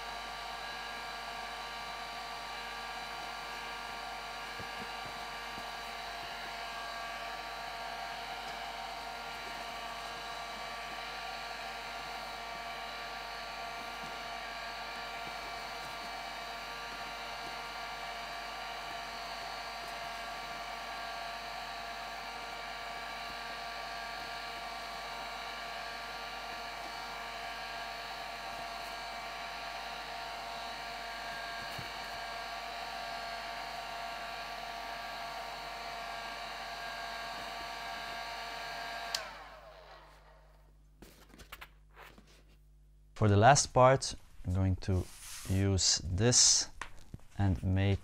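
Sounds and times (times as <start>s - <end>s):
heat gun blowing: 0.0s - 40.3s
motor winding down: 1.3s - 40.2s.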